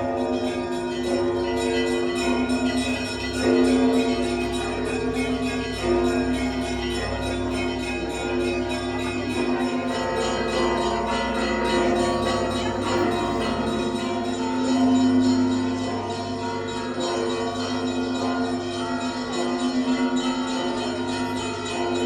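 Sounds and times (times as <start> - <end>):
large church bells ringing: 0.0 - 22.0
small bells struck rapidly: 0.0 - 22.0.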